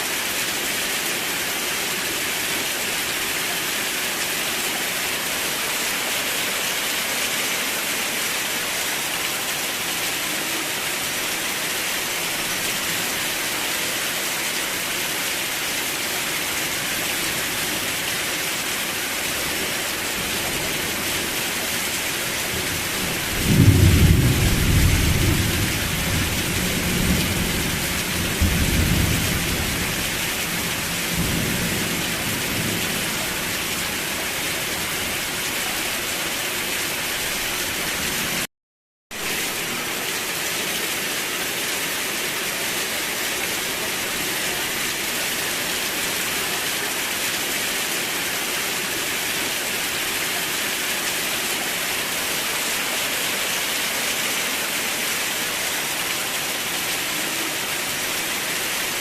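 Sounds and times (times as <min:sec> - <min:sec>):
heavy rain hissing: 0:00.0 - 0:38.5, 0:39.2 - 0:59.0.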